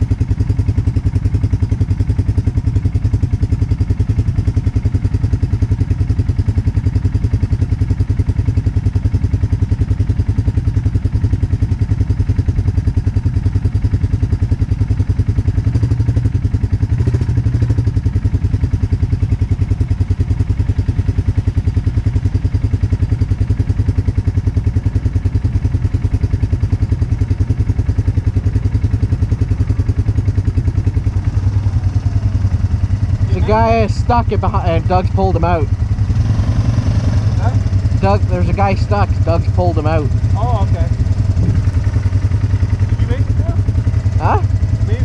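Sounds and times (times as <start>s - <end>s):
atv engine idling: 0.0s - 45.0s.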